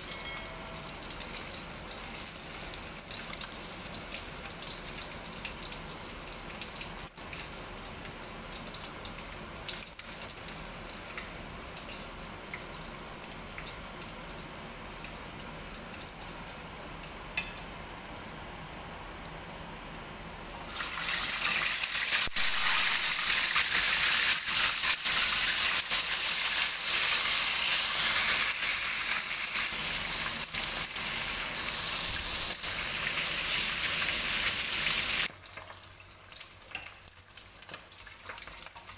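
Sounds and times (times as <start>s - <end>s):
fish sizzling in hot oil: 0.8s - 14.3s, 20.6s - 38.9s.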